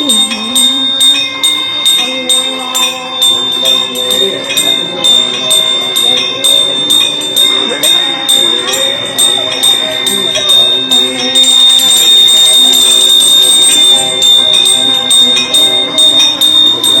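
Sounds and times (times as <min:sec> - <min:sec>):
temple bell ringing rapidly: 0:00.0 - 0:17.0.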